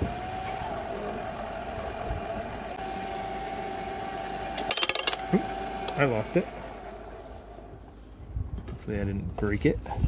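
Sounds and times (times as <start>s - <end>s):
grinding machine humming: 0.0s - 8.4s.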